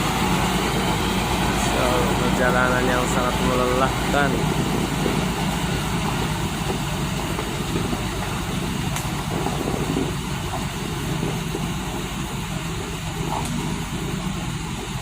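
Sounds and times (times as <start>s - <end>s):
heavy diesel engines rumbling: 0.0s - 15.0s.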